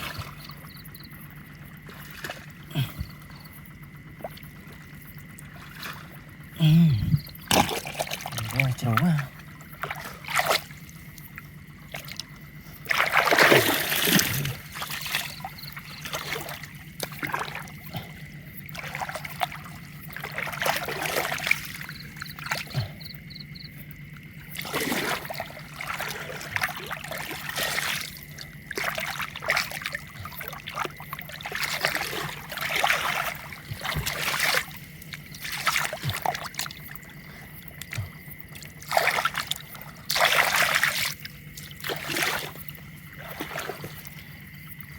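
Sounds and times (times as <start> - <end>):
water splashing and trickling: 0.0 - 44.9.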